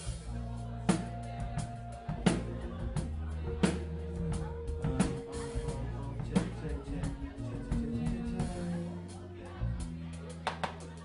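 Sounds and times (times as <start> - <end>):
live band hip-hop groove: 0.0 - 11.0.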